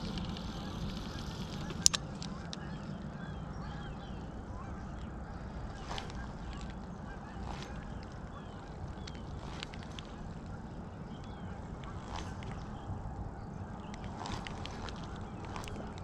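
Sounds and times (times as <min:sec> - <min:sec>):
sharp clicks: 0:00.0 - 0:03.9, 0:05.0 - 0:16.0
bird chirps: 0:00.0 - 0:16.0
low outdoor rumble: 0:00.0 - 0:16.0.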